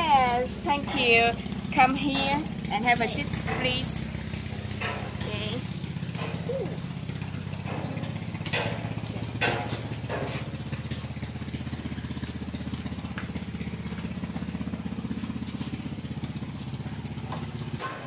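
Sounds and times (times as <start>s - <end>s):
small motorcycle engine idling: 0.0s - 18.0s.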